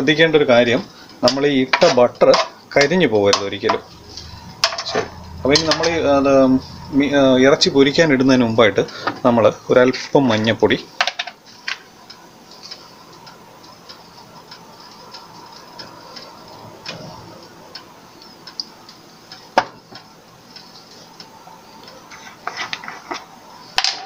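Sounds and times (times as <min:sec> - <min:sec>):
butter sizzling in a wok: 0:00.0 - 0:24.0.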